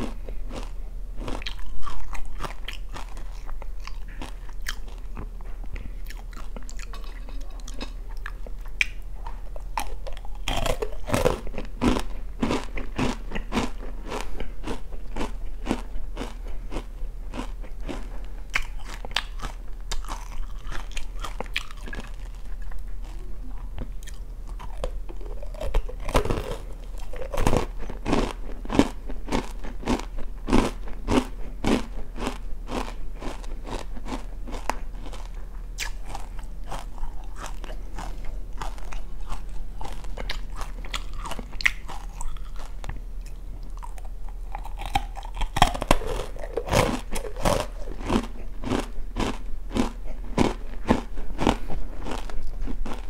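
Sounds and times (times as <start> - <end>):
crisp crunches of chewing snack: 0.0 - 53.0
faint low hum: 0.0 - 53.0.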